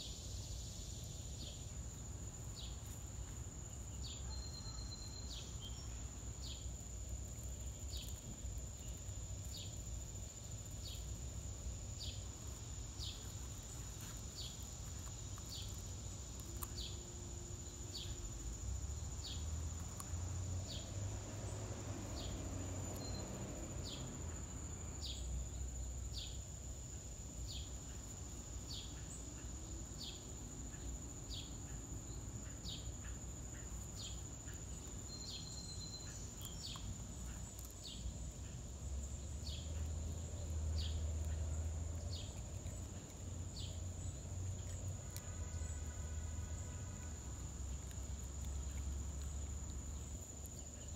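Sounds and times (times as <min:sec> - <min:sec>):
insect chirp: 0:00.0 - 0:50.9.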